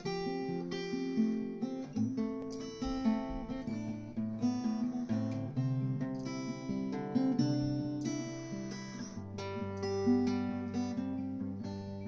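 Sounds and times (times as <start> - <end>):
acoustic guitar picking chords: 0.0 - 12.0.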